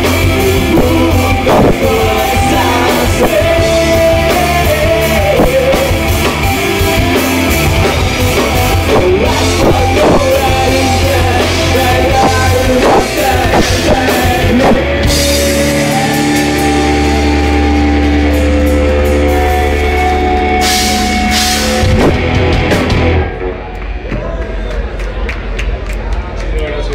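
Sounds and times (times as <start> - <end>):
drum and cymbal hits: 0.0 - 23.2
electric guitars: 0.0 - 24.2.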